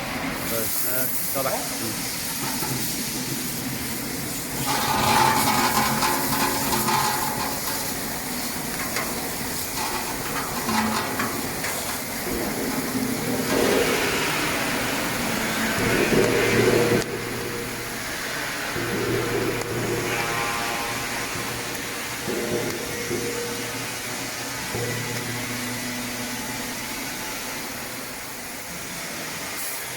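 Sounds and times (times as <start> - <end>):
vegetable washing machine running: 0.0 - 29.9.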